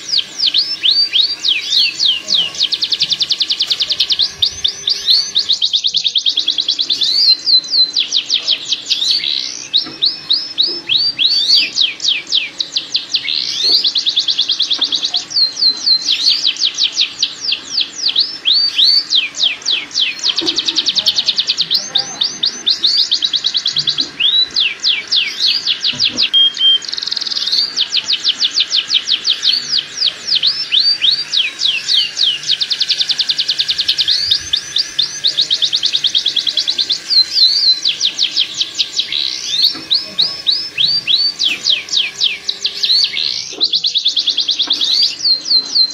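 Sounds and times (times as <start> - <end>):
canary singing rapid trills: 0.0 - 45.9.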